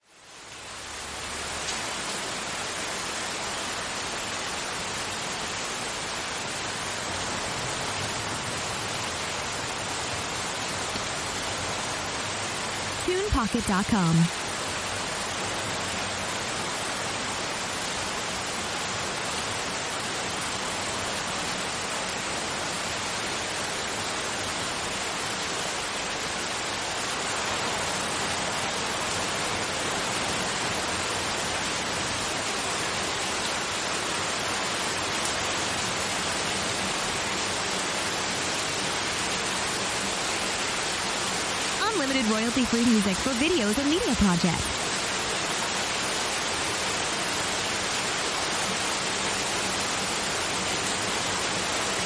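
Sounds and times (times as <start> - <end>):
white noise hiss: 0.1 - 52.0.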